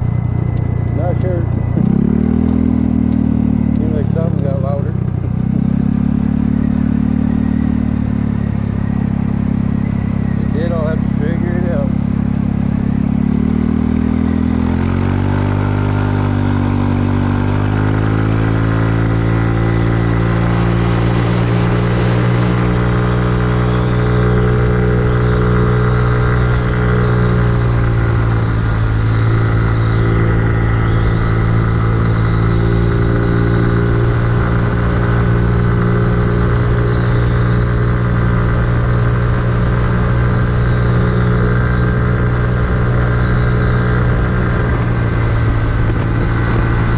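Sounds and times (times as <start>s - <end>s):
scooter engine and exhaust: 0.0s - 46.9s.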